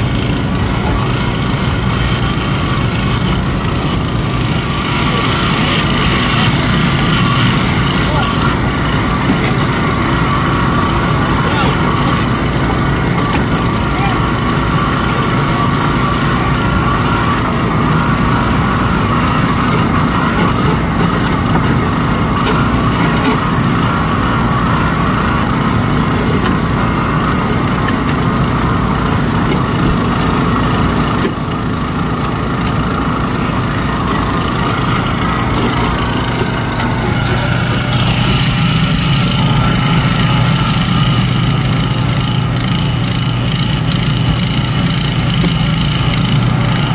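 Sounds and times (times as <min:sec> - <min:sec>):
small gasoline engine running: 0:00.0 - 0:46.9.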